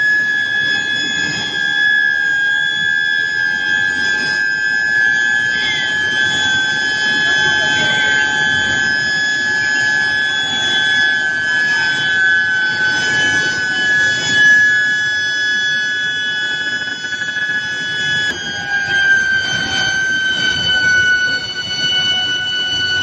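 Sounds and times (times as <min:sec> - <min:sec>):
induction coil high-pitched whine: 0:00.0 - 0:23.0.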